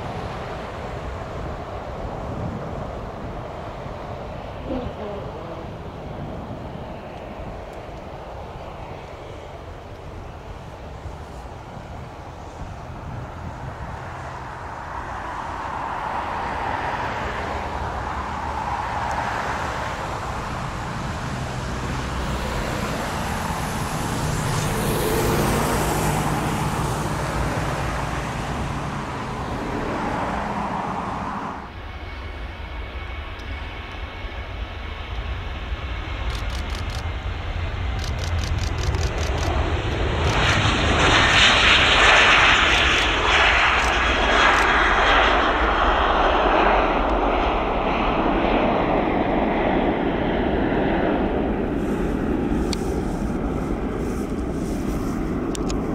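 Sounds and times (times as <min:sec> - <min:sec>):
jet engines taxiing: 0:00.0 - 0:55.9
jet taking off: 0:00.0 - 0:55.9.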